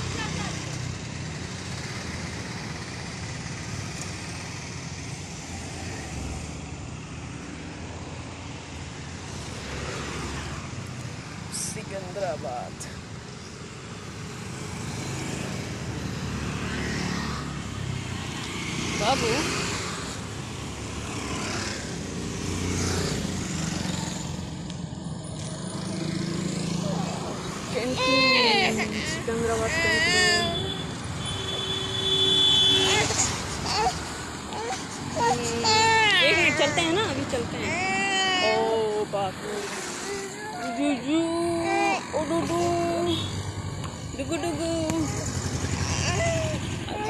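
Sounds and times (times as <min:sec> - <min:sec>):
vehicles going by: 0:00.0 - 0:47.0.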